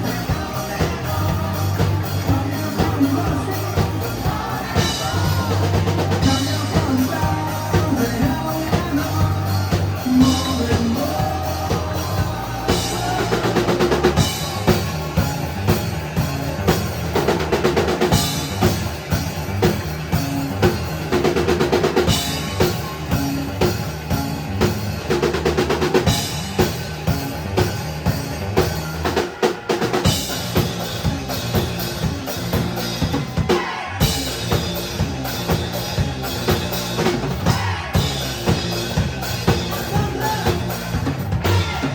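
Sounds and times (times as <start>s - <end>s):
loud drum kit: 0.0s - 41.9s
rock band playing: 0.0s - 41.9s.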